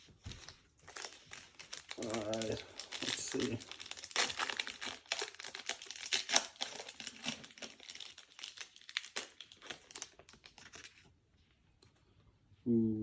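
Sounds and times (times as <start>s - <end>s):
card pack wrapper crinkling: 0.0s - 11.1s.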